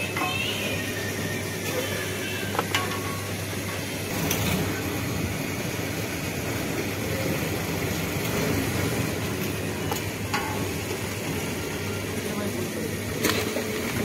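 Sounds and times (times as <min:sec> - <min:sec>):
fuel pump running: 0:02.3 - 0:14.0.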